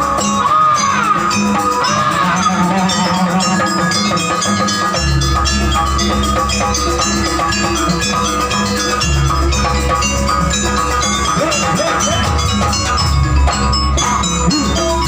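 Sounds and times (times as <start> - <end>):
drums: 0.0 - 15.0
metallophones playing fast runs: 0.0 - 15.0.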